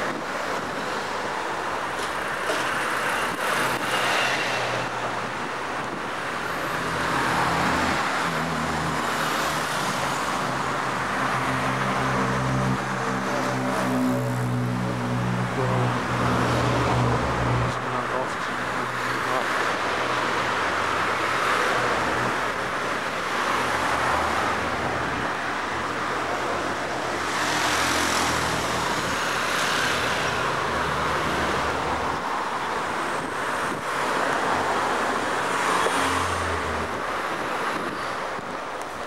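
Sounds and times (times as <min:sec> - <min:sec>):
cars passing: 0:00.0 - 0:39.0
road noise hum: 0:00.0 - 0:39.0.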